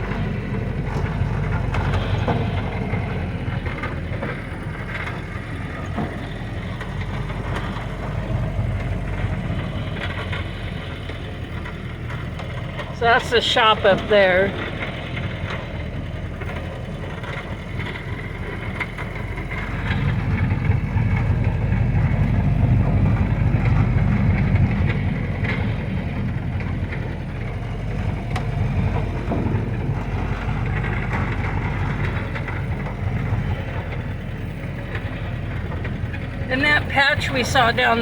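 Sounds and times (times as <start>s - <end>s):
car engine driving: 0.0s - 38.0s.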